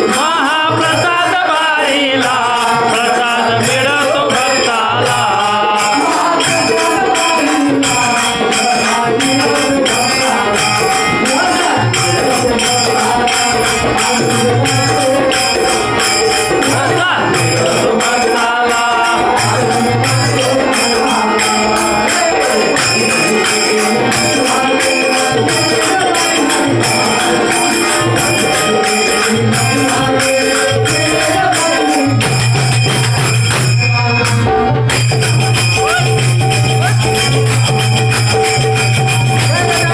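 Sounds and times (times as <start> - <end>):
man singing: 0.0 - 34.7, 35.6 - 37.5, 38.2 - 39.9
hand drum beat: 0.0 - 39.9
jingling metal percussion: 0.0 - 39.9.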